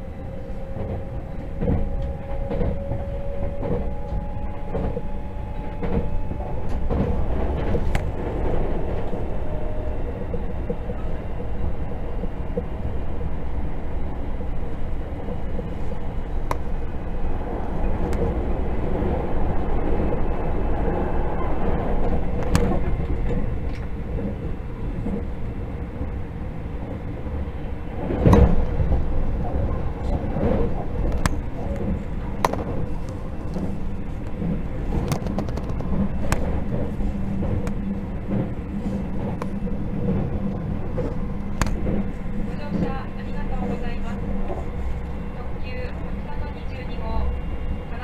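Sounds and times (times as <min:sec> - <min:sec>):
train rumbling inside car: 0:00.0 - 0:48.0.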